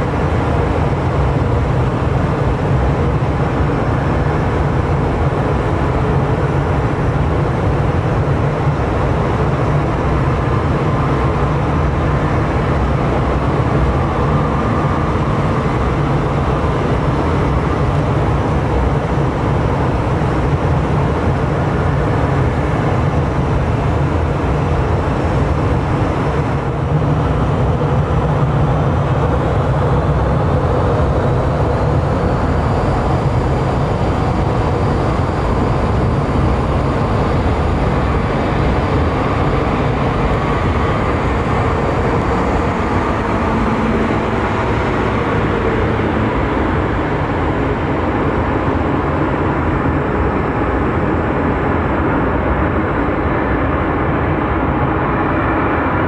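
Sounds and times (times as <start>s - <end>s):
jet engines rumbling with whine: 0.0s - 56.0s.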